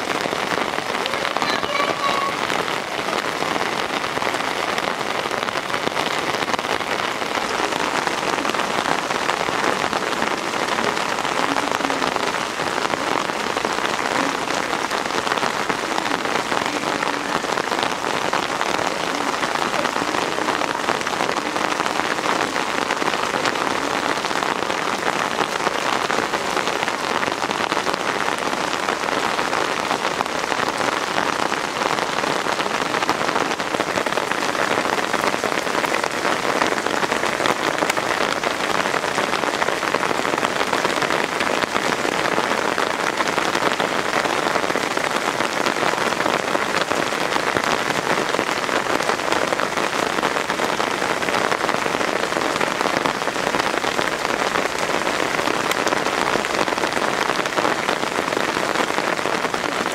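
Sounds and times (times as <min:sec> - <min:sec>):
heavy rain on hard surfaces: 0:00.0 - 0:59.9.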